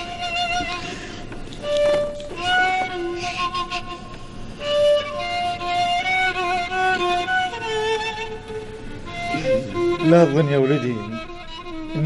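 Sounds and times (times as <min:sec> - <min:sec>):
slow melancholy violin melody: 0:00.0 - 0:12.0.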